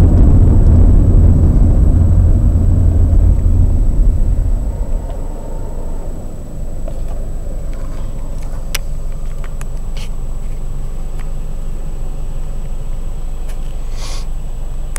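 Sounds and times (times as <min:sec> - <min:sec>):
car engine running at low revs: 0:00.0 - 0:14.9.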